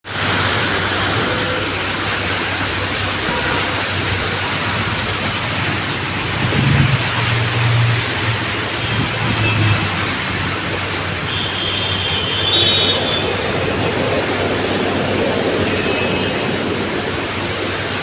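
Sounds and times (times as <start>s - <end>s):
heavy rain hissing: 0.1s - 18.0s.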